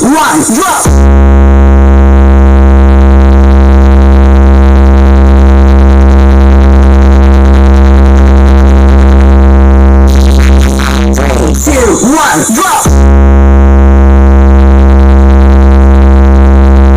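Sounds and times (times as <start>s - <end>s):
deep buzzy bass tone: 0.8s - 16.9s.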